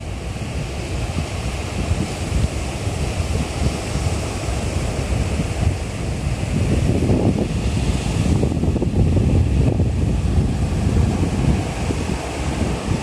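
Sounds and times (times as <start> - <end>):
sea waves washing onto beach: 0.0 - 13.0
wind buffeting the microphone: 0.0 - 13.0.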